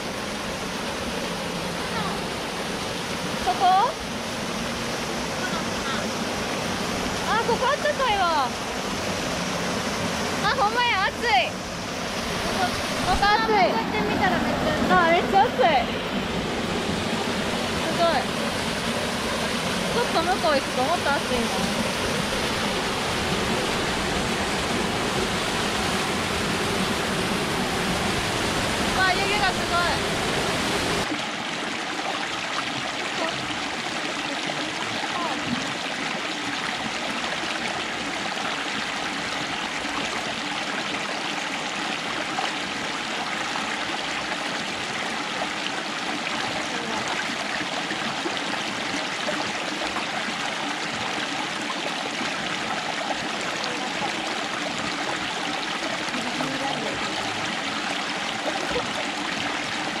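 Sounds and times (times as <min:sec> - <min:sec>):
water rushing and splashing: 0:00.0 - 1:00.0.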